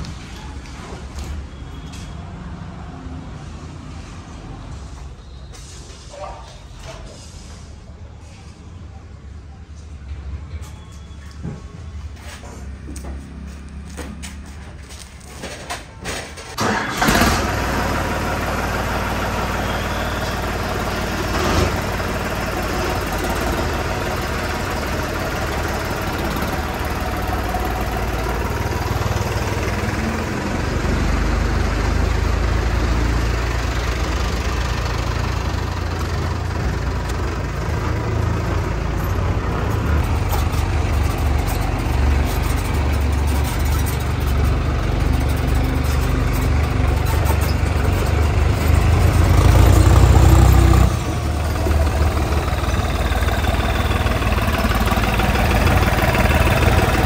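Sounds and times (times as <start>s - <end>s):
diesel tractor engine rumbling: 0.0s - 57.0s.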